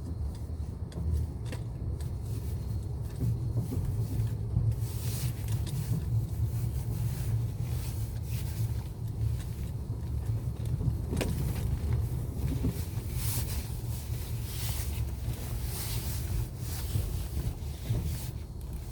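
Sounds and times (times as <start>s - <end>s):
car low rumble: 0.0s - 18.9s.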